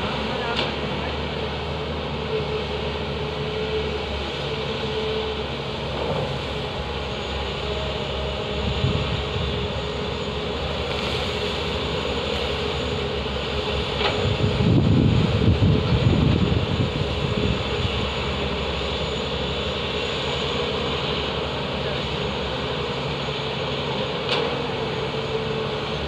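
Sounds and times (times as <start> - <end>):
excavator diesel engines droning: 0.0 - 26.0.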